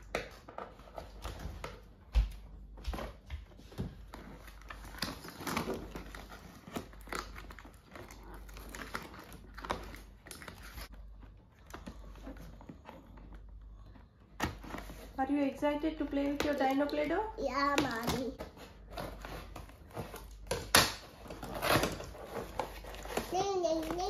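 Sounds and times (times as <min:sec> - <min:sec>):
cardboard and plastic crinkling: 0:00.0 - 0:24.0.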